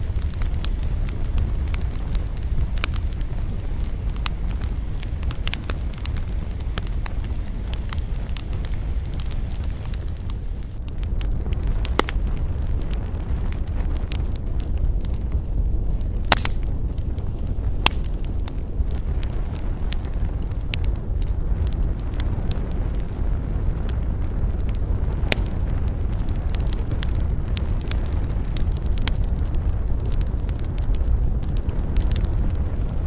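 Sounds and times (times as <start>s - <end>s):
campfire crackling and popping: 0.0s - 33.0s
low steady fire rumble: 0.0s - 33.0s.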